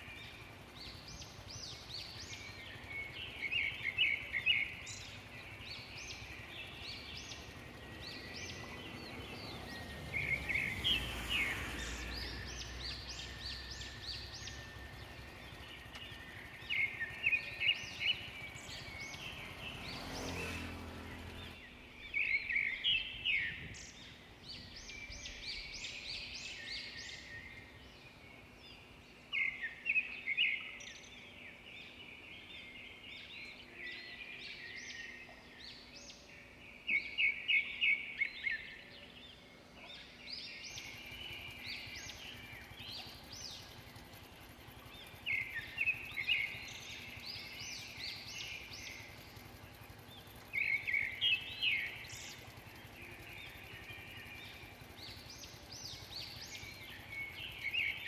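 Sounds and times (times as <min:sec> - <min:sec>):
bird calling with rising notes: 0:00.0 - 0:58.0
faint outdoor background: 0:00.0 - 0:58.0.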